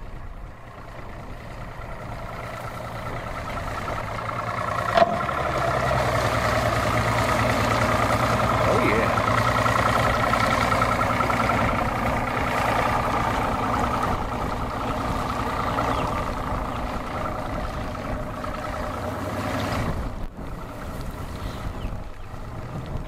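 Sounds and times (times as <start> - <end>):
outboard motor idling: 0.0 - 23.0
wind buffeting microphone: 0.0 - 23.0.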